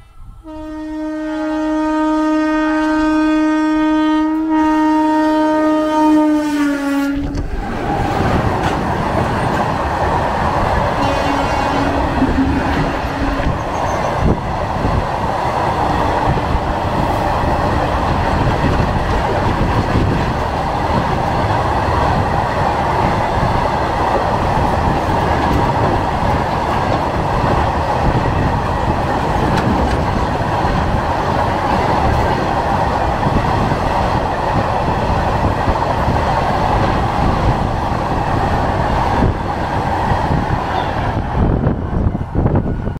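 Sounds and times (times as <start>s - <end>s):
freight train wheels rumbling on rails: 0.0s - 42.9s.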